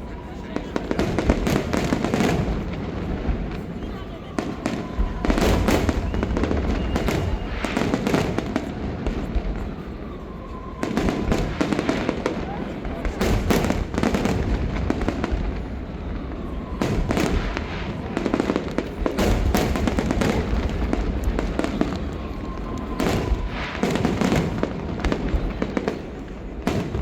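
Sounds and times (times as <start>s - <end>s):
fireworks crackling: 0.0s - 27.0s
rolling booms: 0.2s - 27.0s.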